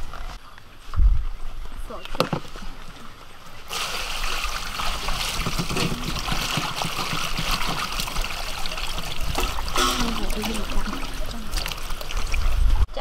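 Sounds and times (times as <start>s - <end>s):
trickle of running water: 1.5s - 12.9s.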